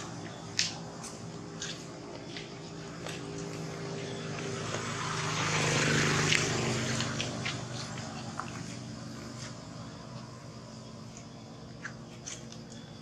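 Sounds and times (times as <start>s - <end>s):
vehicle engine passing by: 0.0s - 12.2s.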